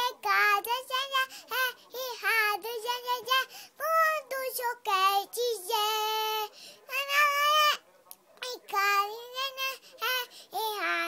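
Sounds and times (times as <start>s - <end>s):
child singing pop song: 0.0s - 7.8s, 8.4s - 11.0s.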